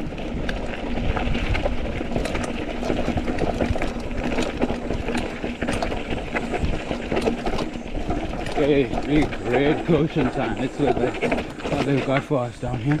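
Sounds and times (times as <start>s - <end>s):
bike chain and frame rattling: 0.0s - 13.0s.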